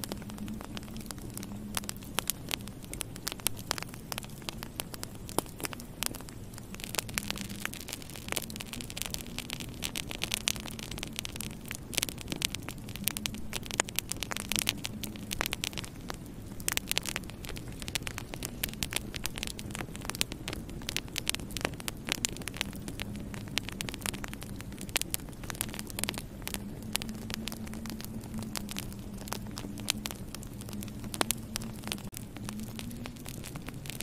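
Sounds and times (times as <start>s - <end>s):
steady low hum: 0.0s - 34.0s
wood fire crackling and popping: 0.0s - 34.0s.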